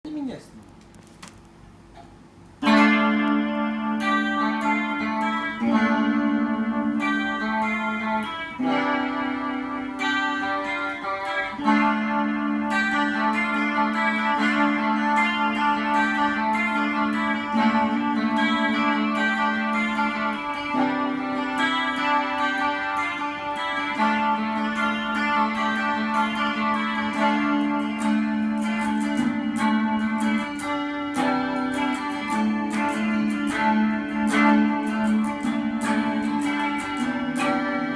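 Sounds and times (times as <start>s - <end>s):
instrumental music with plucked guitar: 1.9s - 37.9s.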